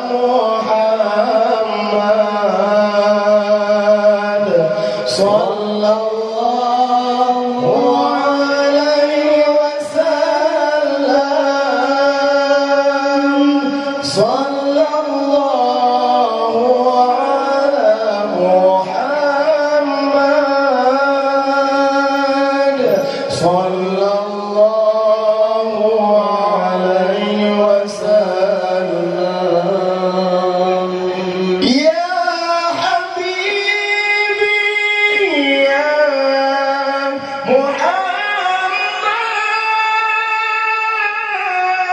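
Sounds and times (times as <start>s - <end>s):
men singing through microphones: 0.0s - 41.9s.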